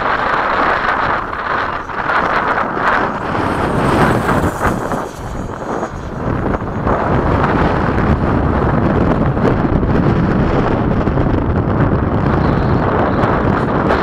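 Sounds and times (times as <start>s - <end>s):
electric ducted fan whine: 0.0s - 14.0s
wind buffeting microphone: 0.0s - 14.0s.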